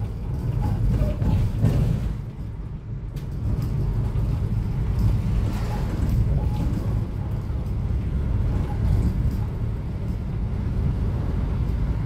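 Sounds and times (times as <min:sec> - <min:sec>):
diesel bus engine rumble: 0:00.0 - 0:12.0.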